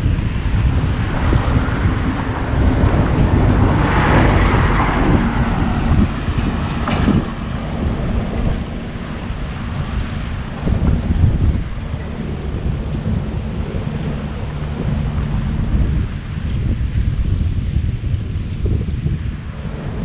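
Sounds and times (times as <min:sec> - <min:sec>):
passing vehicle: 0:00.0 - 0:20.0
wind buffeting microphone: 0:00.0 - 0:20.0.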